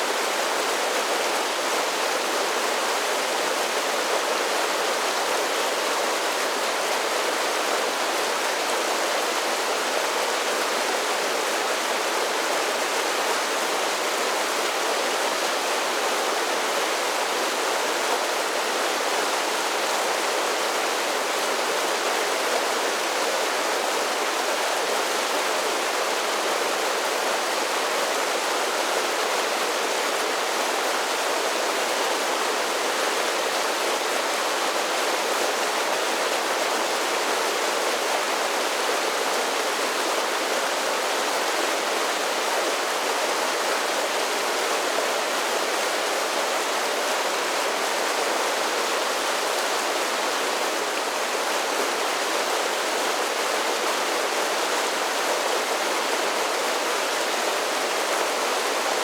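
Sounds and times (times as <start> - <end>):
creek rushing over waterfalls: 0.0 - 59.0.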